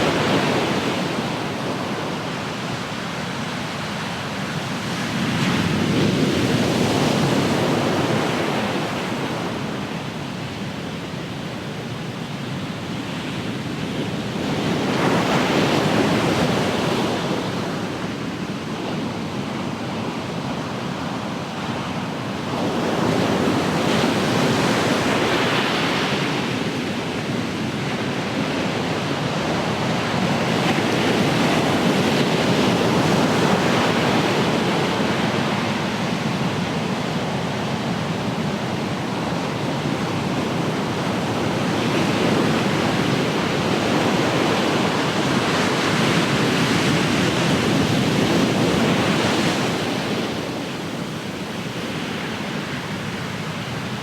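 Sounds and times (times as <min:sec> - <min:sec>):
ocean surf washing ashore: 0:00.0 - 0:54.0.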